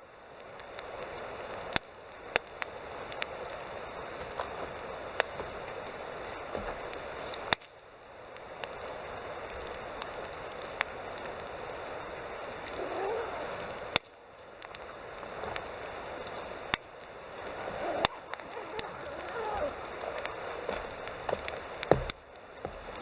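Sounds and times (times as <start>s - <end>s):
burning wood popping: 0.0s - 23.0s
campfire crackling: 0.0s - 23.0s.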